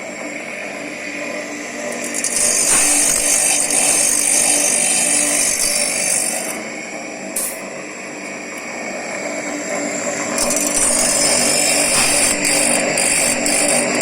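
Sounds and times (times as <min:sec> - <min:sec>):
sharpening machine motor hum: 0:01.1 - 0:14.0
grinding wheel hissing on blade: 0:01.3 - 0:07.6, 0:09.0 - 0:14.0.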